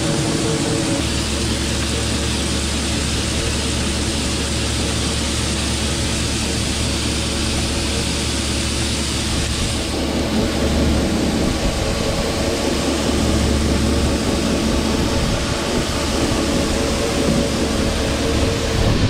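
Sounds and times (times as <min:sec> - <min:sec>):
tractor engine and auger running: 0:00.0 - 0:19.0.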